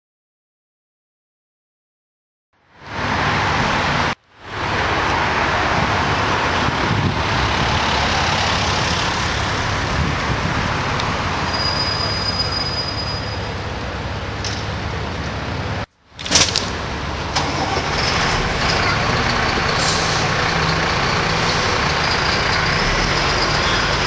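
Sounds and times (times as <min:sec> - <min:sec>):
road traffic passing: 0:02.6 - 0:24.0.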